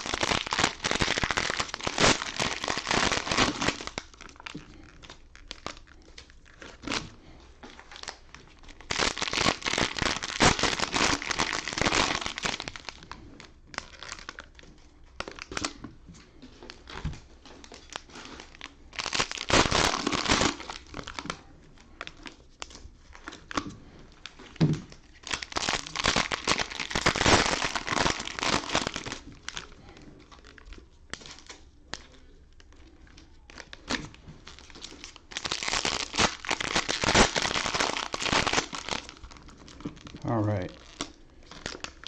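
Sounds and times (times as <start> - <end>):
cellophane wrappers crinkling and tearing: 0.0 - 42.0.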